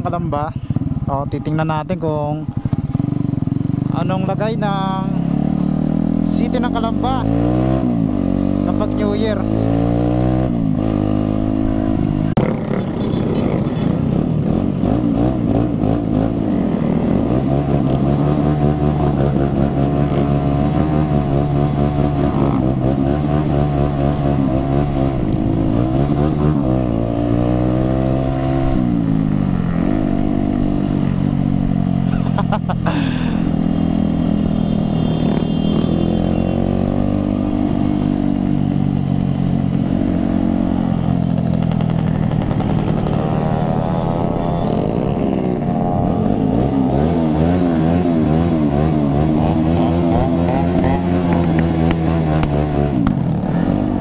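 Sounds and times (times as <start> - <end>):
motorcycle engine revving: 0.0 - 54.0
road and wind rumble: 0.0 - 54.0.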